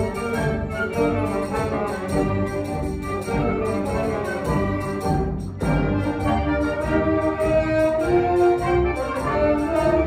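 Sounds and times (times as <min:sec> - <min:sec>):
symphony orchestra playing: 0:00.0 - 0:10.0.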